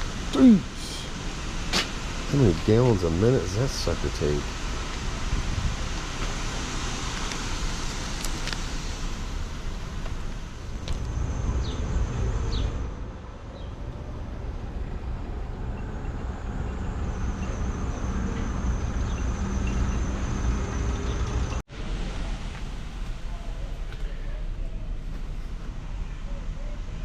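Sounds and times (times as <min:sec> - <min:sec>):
engine running low rumble: 0:00.0 - 0:27.0.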